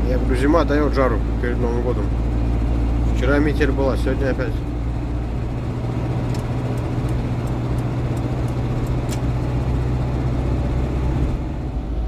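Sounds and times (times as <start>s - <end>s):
truck diesel engine and tyre noise: 0.0s - 12.0s.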